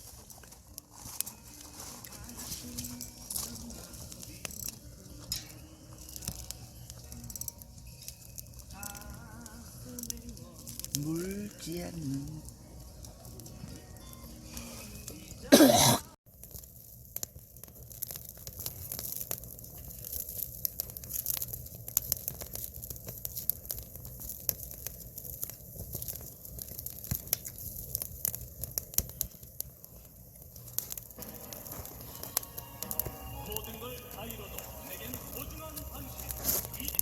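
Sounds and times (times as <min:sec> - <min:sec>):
firewood crackling and snapping: 0:00.0 - 0:37.0.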